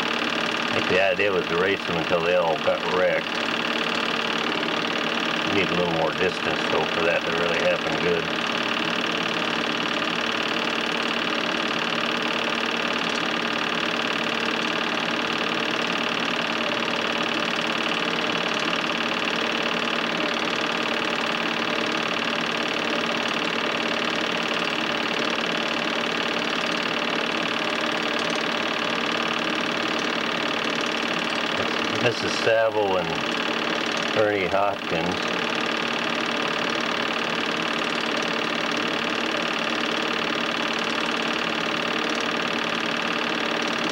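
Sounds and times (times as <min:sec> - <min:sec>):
film projector whirring: 0:00.0 - 0:43.9.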